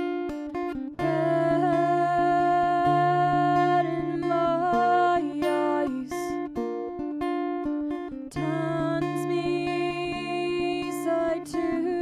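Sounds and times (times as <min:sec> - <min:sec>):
picked acoustic guitar: 0:00.0 - 0:12.0
woman singing: 0:00.9 - 0:06.7, 0:08.1 - 0:12.0.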